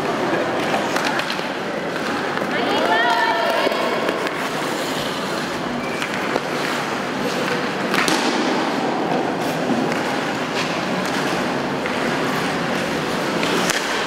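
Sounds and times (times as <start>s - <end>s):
hockey sticks and puck clacking: 0.0s - 14.0s
murmur of voices: 0.0s - 14.0s
skates scraping ice: 0.0s - 14.0s.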